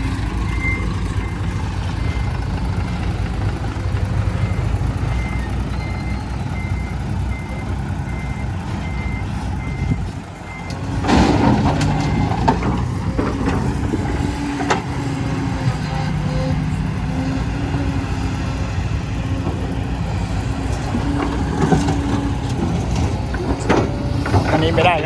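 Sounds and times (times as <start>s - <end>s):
dump truck engine running: 0.0s - 25.0s.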